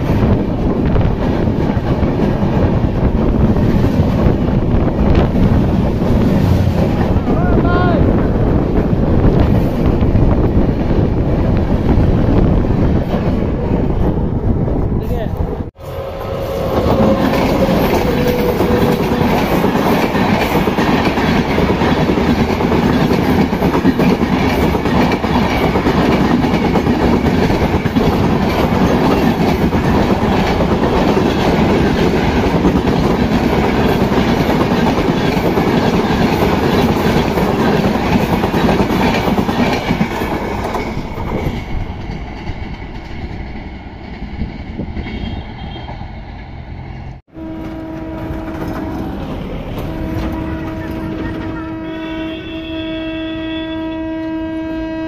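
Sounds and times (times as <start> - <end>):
train passing at speed: 0.0 - 55.0.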